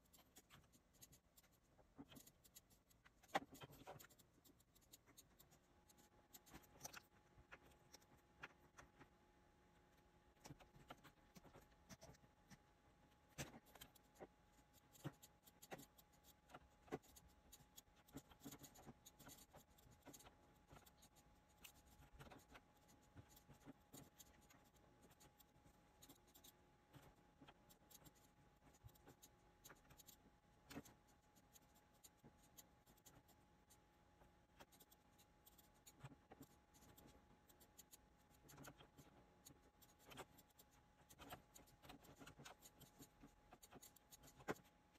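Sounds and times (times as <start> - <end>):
stylus tapping and scratching screen: 0.0 - 44.9.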